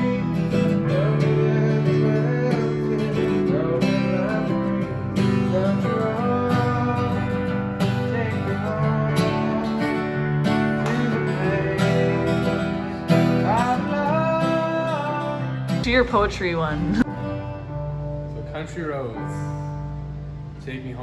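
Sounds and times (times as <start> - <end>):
plucked acoustic guitar tune: 0.0 - 20.6.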